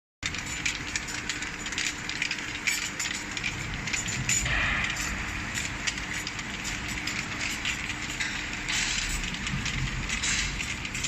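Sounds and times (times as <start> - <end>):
glass bottles clinking and rattling: 0.2 - 11.0
machine hum: 0.2 - 11.0.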